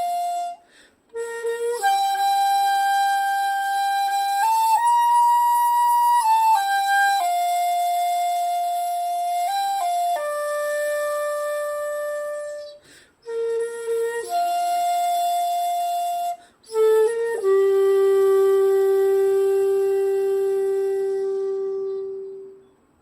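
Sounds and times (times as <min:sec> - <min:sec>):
bamboo flute slow melody: 0:00.0 - 0:22.9.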